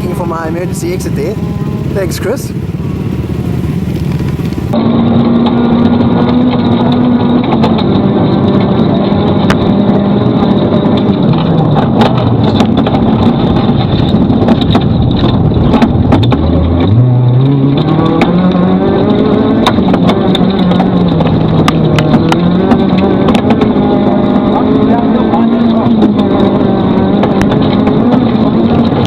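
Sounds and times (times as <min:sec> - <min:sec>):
rally car engine: 0:00.0 - 0:29.0.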